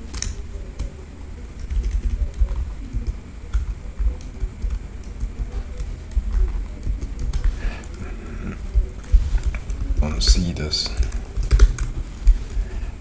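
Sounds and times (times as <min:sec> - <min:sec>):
computer keyboard keystrokes: 0:00.0 - 0:00.9, 0:01.6 - 0:08.0, 0:09.0 - 0:12.6.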